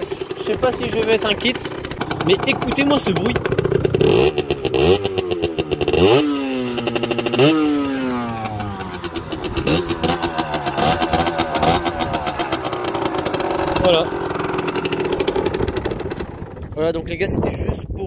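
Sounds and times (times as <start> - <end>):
two-stroke motorcycle engine revving: 0.0 - 16.8.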